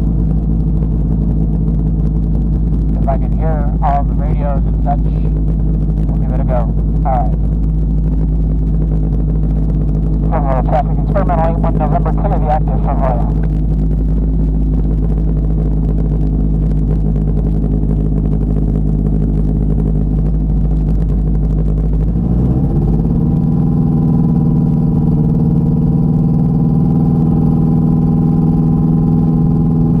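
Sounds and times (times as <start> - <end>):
light aircraft engine and propeller: 0.0 - 30.0.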